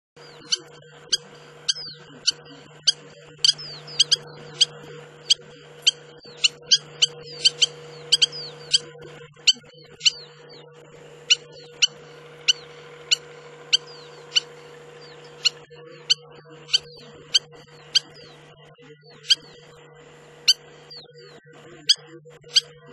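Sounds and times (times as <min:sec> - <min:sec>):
faint steady hum: 0:00.2 - 0:22.9
lapwing giving sharp calls: 0:00.2 - 0:22.9.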